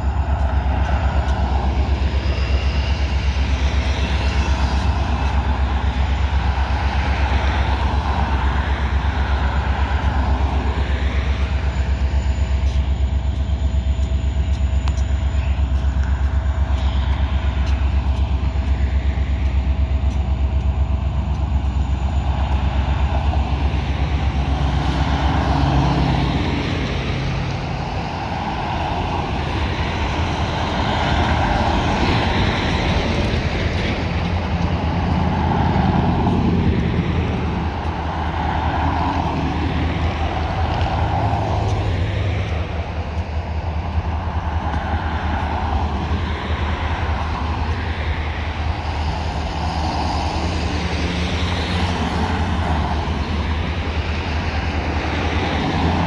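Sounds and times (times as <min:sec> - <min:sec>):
diesel locomotives droning: 0:00.0 - 0:56.0
road traffic passing: 0:00.0 - 0:56.0.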